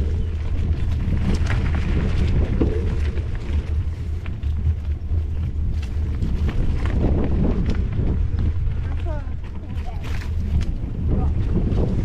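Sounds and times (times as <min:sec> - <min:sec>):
bike tyres rumbling on dirt: 0:00.0 - 0:12.0.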